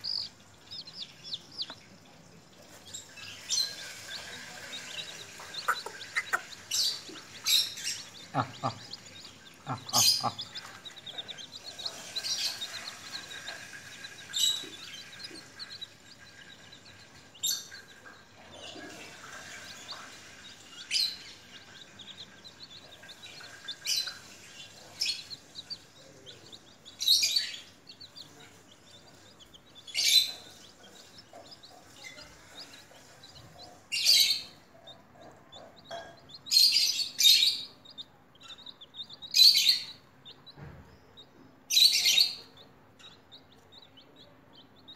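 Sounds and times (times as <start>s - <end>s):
baby chicks peeping: 0.0s - 44.9s.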